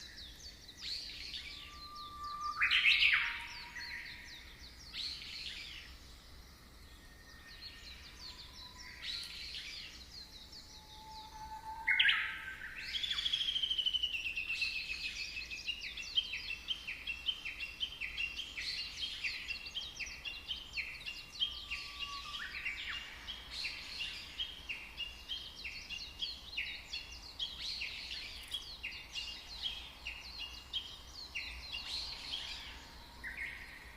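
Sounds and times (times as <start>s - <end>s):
songbirds chirping and whistling: 0.0s - 33.9s.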